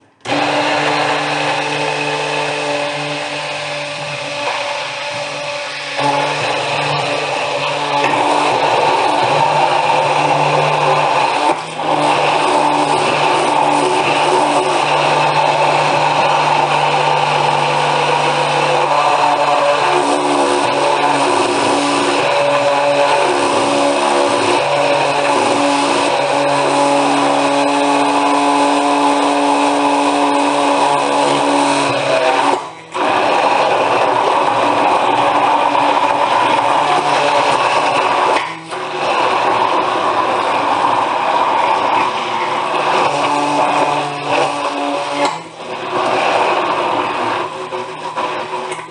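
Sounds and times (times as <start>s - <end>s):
electric blender whirring: 0.0s - 48.9s.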